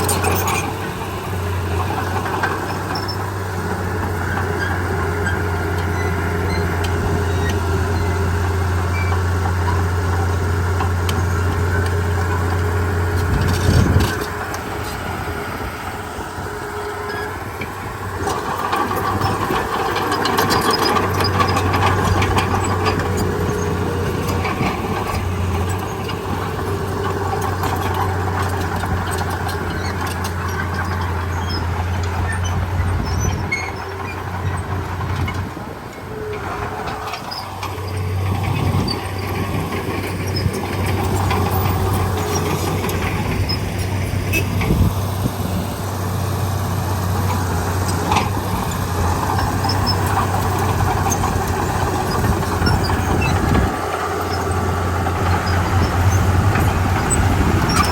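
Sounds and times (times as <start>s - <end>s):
bulldozer diesel engine droning: 0.0s - 57.9s.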